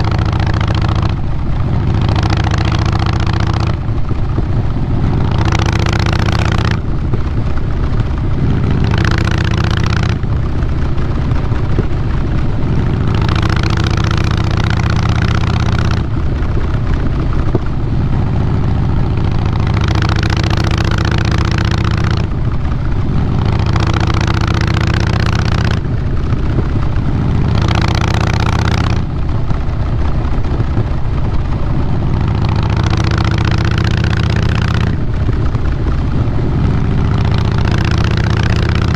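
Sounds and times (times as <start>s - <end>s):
motorcycle exhaust note: 0.0s - 38.9s.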